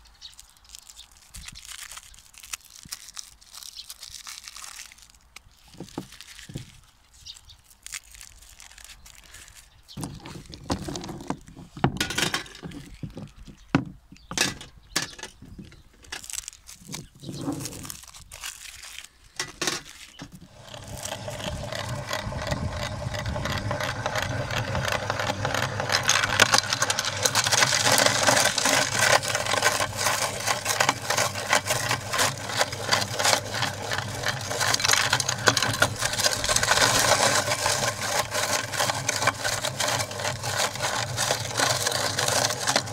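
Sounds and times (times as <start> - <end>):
meat grinder crunching hard candy: 0.0 - 13.6, 15.5 - 42.9
plastic wrappers crinkling and tearing: 0.0 - 14.2, 15.4 - 42.9.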